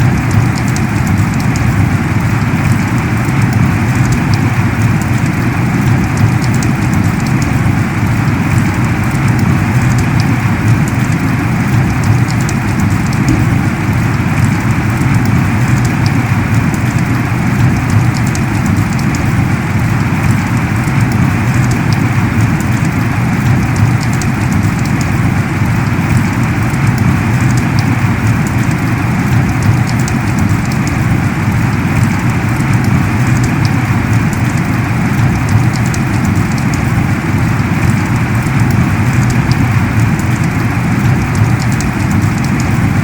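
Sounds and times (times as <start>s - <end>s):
heavy rain: 0.0s - 43.0s
sharp raindrop ticks: 0.0s - 43.0s.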